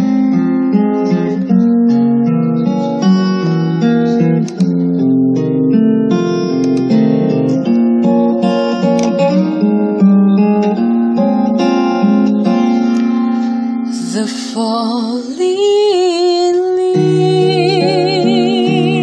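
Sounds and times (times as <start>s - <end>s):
plucked acoustic guitar: 0.0s - 19.0s
held melody with vibrato: 0.7s - 19.0s.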